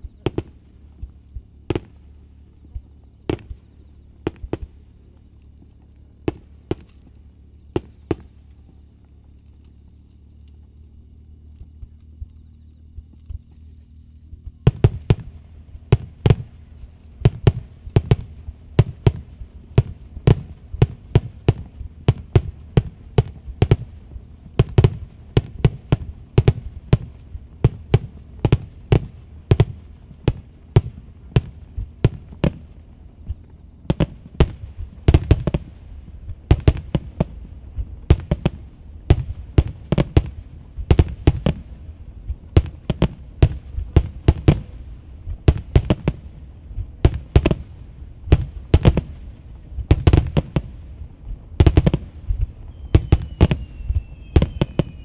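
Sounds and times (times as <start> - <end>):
distant firework booms: 0.0 - 4.8, 14.4 - 55.0.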